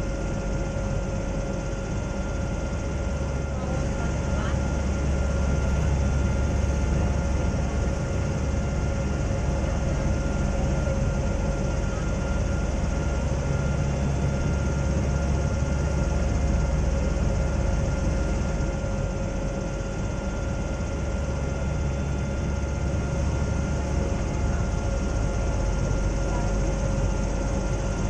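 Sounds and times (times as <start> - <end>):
airship engine drone: 0.0 - 28.0.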